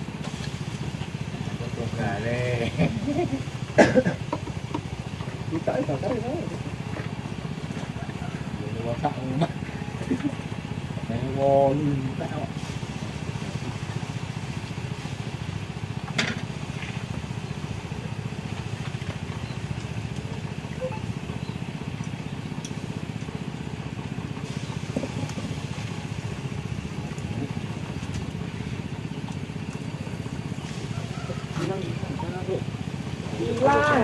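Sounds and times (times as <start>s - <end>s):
small engine idling: 0.0s - 34.0s.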